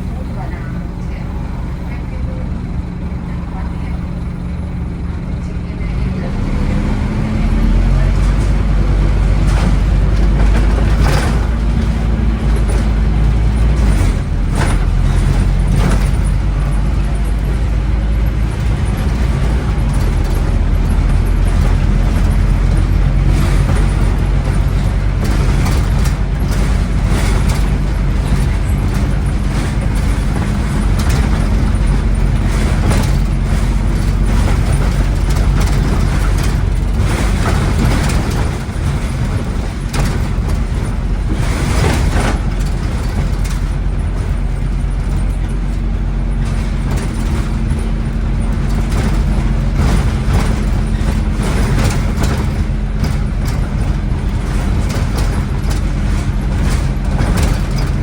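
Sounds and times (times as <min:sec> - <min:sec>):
bus body rattling and knocking: 0:00.0 - 0:58.0
bus diesel engine droning: 0:00.0 - 0:58.0.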